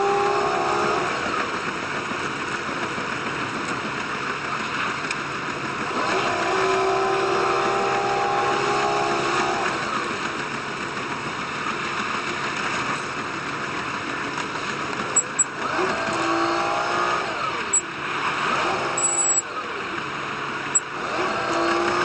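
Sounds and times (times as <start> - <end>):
railcar rushing along track: 0.0 - 22.0.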